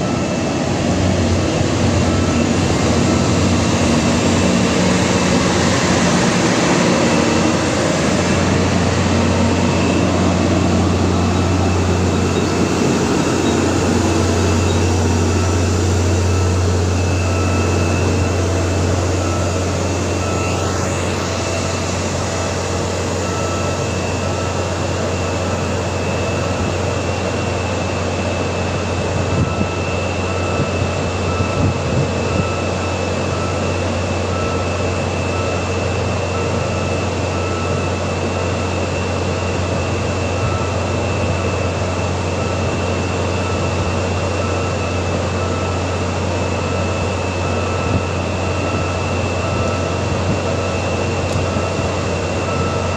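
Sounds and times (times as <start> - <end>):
thin high whine: 0.0 - 52.9
train engine low hum: 0.0 - 52.9.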